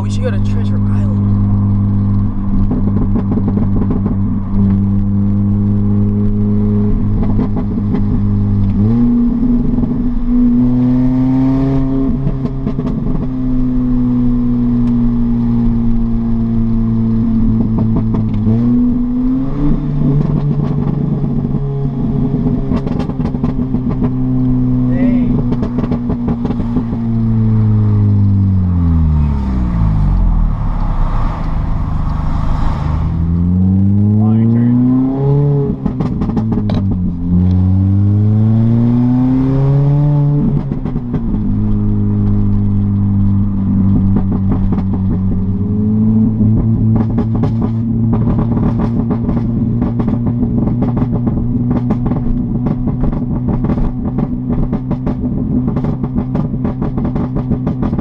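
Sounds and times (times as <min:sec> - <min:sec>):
car engine exhaust at cruising revs: 0:00.0 - 0:58.0.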